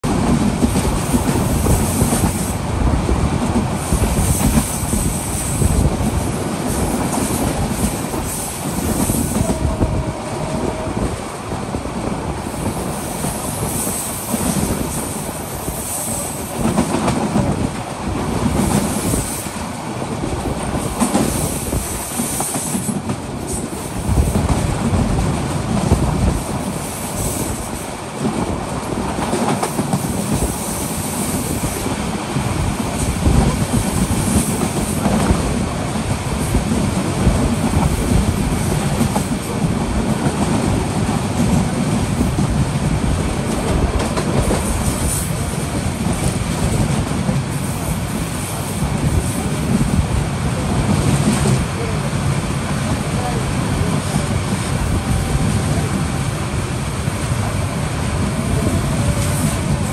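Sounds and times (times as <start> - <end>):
rush of track and air noise: 0.0 - 59.9.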